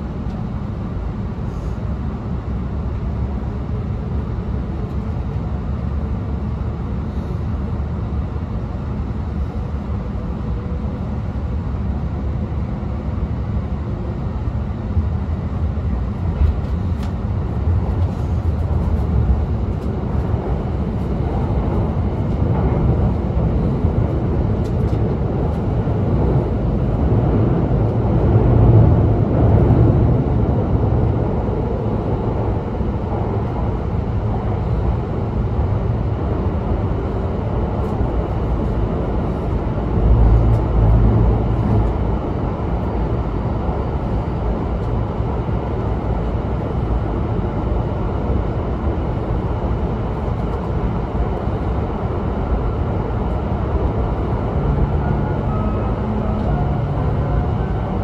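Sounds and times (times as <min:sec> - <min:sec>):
train rumbling through tunnel: 0:00.0 - 0:58.0.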